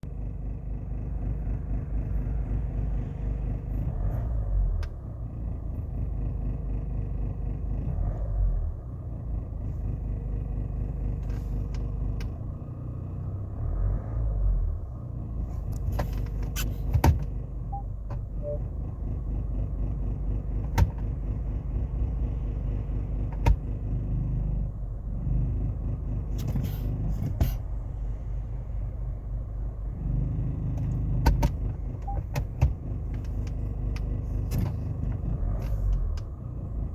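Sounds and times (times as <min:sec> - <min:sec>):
diesel engine rumble in cabin: 0:00.0 - 0:36.9.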